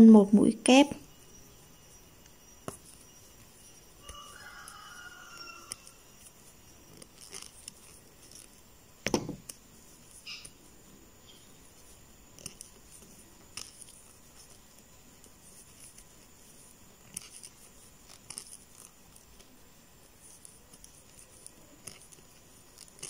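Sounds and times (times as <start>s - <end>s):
crochet hook clicking and rustling: 2.2s - 10.6s, 11.8s - 23.0s.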